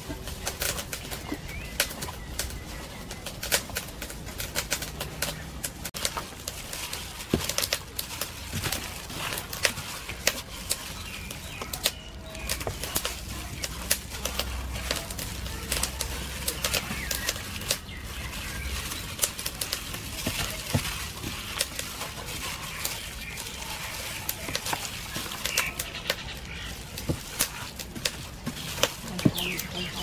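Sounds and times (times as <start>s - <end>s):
glove crinkling: 0.0s - 30.0s
wet squelches of kneaded meat: 5.0s - 30.0s.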